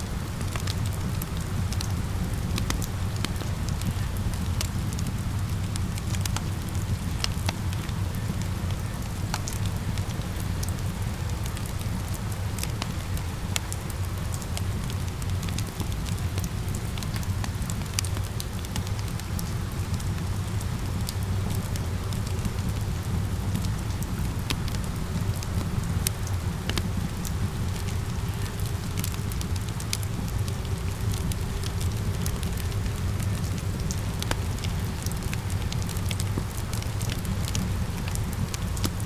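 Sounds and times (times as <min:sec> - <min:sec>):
falling rain: 0:00.0 - 0:39.0
wood fire crackling and popping: 0:00.1 - 0:39.0.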